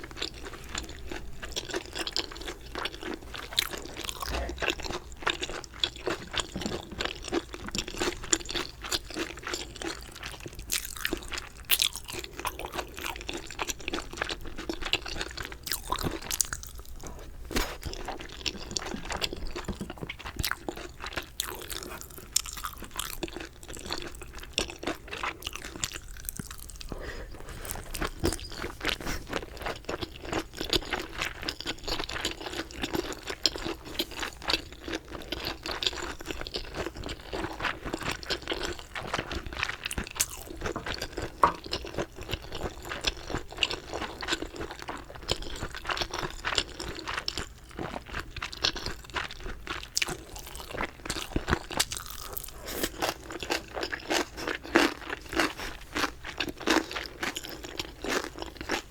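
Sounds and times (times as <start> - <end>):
crunchy chicken chewing: 0.0 - 58.9.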